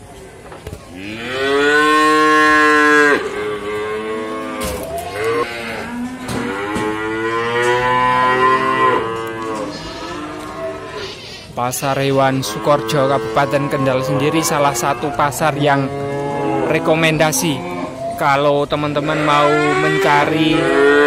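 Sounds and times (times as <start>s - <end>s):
calves mooing: 0.9s - 11.6s, 12.3s - 21.0s.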